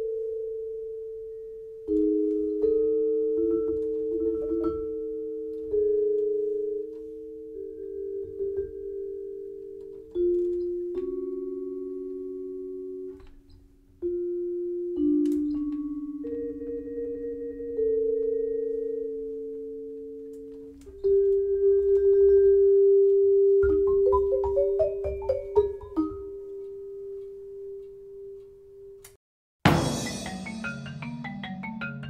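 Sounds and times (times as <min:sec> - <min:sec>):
vibraphone chords: 0:00.0 - 0:13.3, 0:14.0 - 0:28.9, 0:29.7 - 0:32.0.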